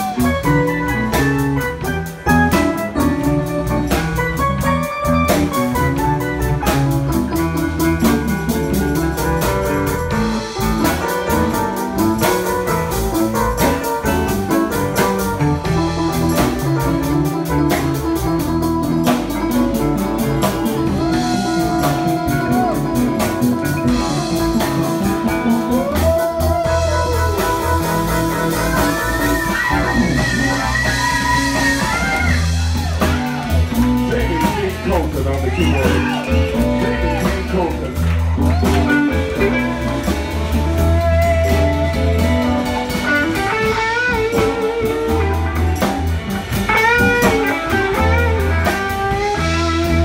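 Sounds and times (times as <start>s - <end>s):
drum kit: 0.0s - 50.0s
electric guitar: 0.0s - 50.0s.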